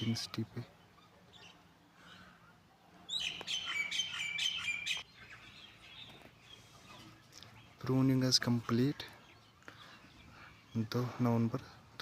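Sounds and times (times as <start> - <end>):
bird chirping: 0.0 - 12.0
faint outdoor background: 0.0 - 12.0.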